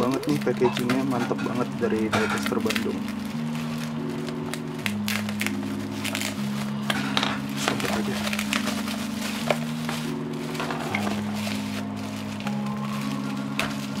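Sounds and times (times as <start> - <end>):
background music low chords: 0.0 - 14.0
bubble wrap crinkling: 0.0 - 14.0.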